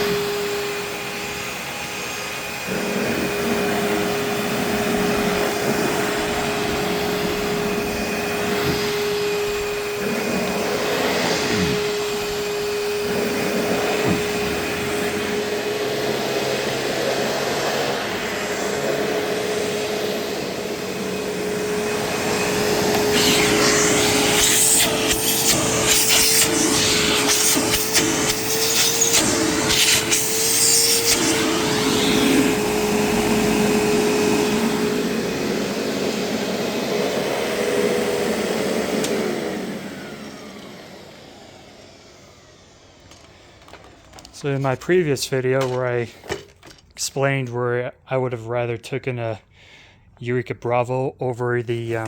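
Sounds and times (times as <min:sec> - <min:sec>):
vacuum cleaner motor whine: 0:00.0 - 0:44.8
vacuum rattling and scraping on rug: 0:00.0 - 0:44.8.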